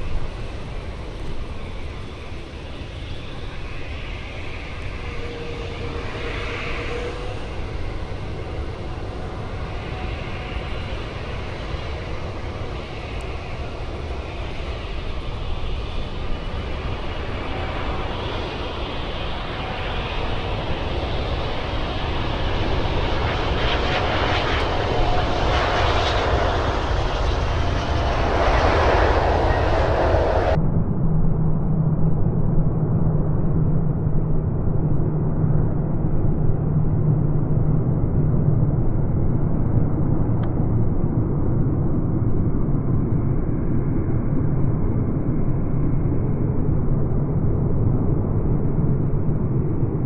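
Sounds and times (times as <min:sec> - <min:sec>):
jet airliner engines rumbling: 0:00.0 - 0:50.0
jet engine whine: 0:00.0 - 0:50.0.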